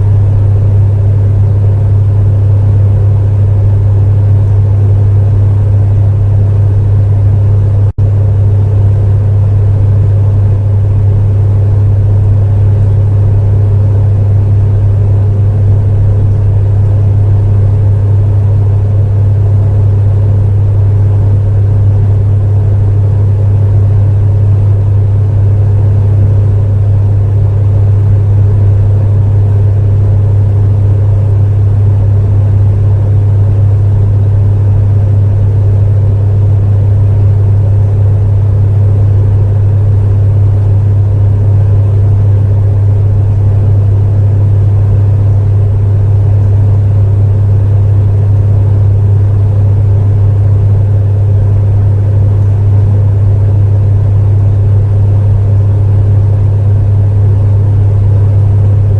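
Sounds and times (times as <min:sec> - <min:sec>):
space heater humming: 0:00.0 - 0:58.9.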